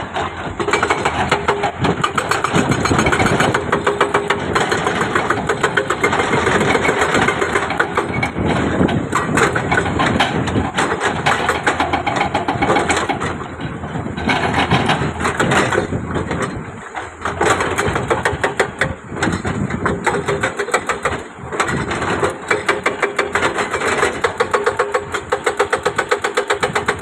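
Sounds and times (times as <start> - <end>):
diesel engine of heavy machinery: 0.0 - 27.0
rapid clatter: 0.0 - 27.0.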